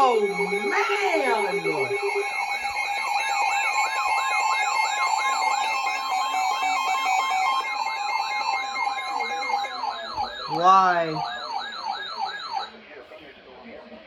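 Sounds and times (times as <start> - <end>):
beeping tone: 0.0 - 12.7
steady alert tones: 0.0 - 12.7
weather radio siren wail: 0.0 - 12.7.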